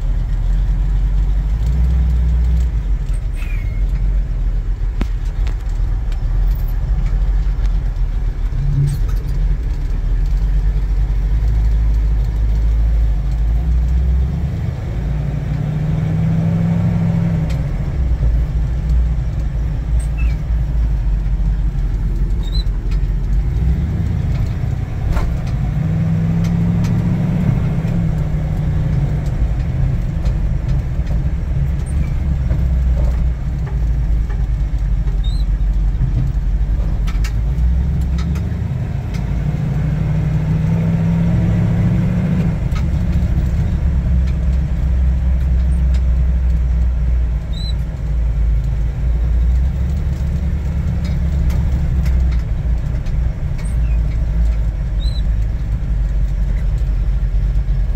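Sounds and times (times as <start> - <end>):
truck engine rumbling: 0.0 - 57.9.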